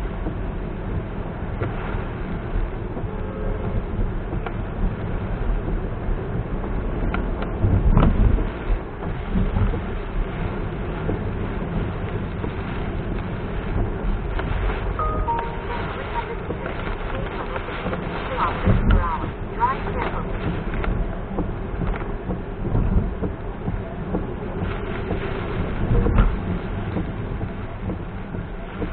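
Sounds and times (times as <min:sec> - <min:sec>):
rain: 0:00.0 - 0:28.9
road and tyre rumble: 0:00.0 - 0:28.9.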